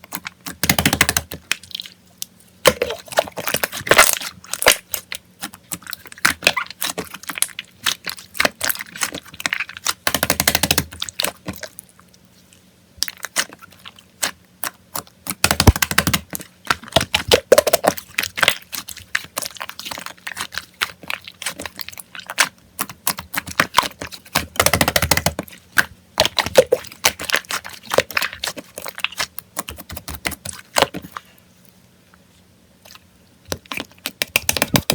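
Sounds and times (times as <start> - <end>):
slime squelching: 0.0 - 34.9.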